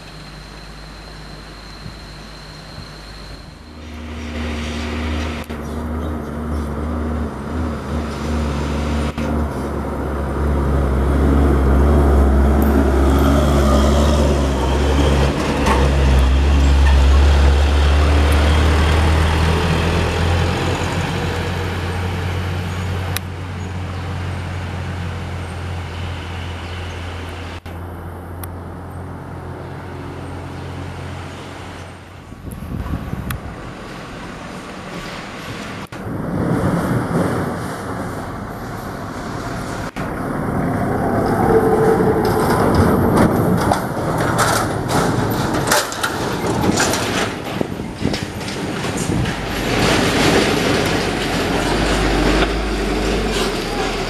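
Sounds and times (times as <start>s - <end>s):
heavy diesel truck engine: 0.0s - 54.0s.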